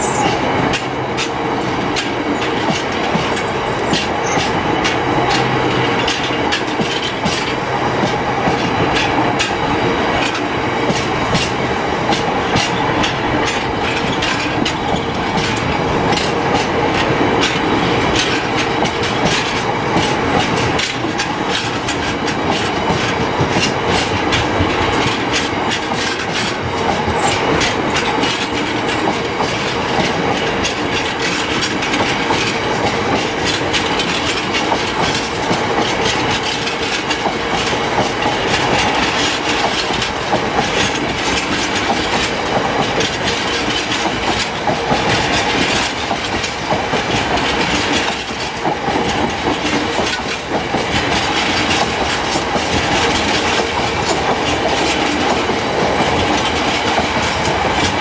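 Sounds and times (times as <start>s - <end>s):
steady train rumble: 0.0s - 58.0s
wheels clattering over rail joints: 0.0s - 58.0s.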